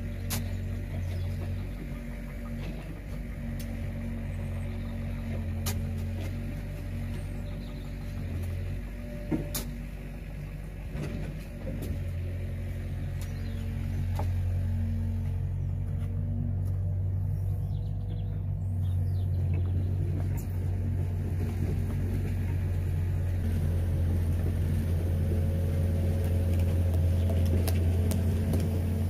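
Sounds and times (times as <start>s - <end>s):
excavator engine idling: 0.0s - 29.0s.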